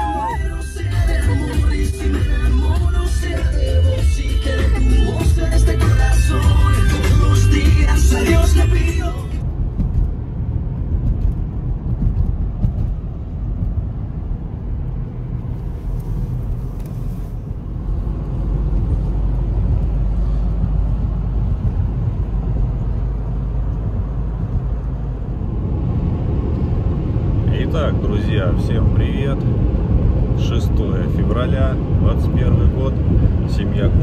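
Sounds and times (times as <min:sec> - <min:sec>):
car cabin road rumble: 0:00.0 - 0:34.0.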